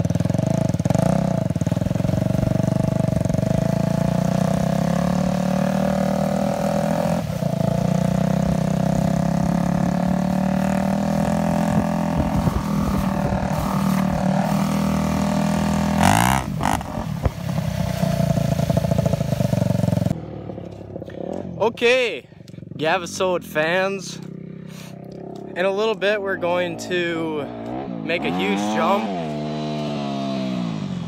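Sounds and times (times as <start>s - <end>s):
dirt bike engine running: 0.0s - 31.0s.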